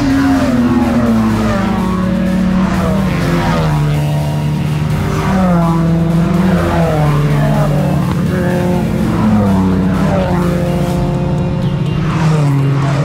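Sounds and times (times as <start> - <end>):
background music: 0.0 - 13.0
race car engines: 0.0 - 13.0.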